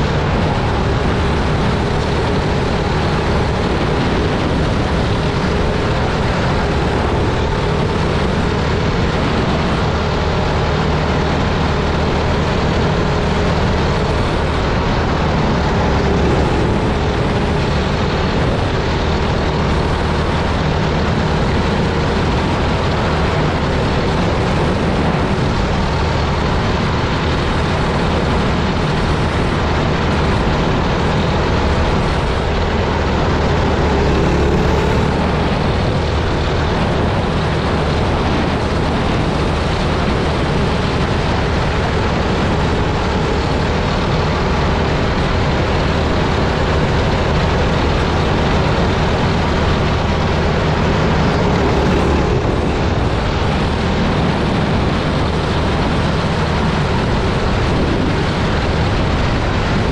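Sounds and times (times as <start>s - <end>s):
kart engine running: 0.0s - 59.9s.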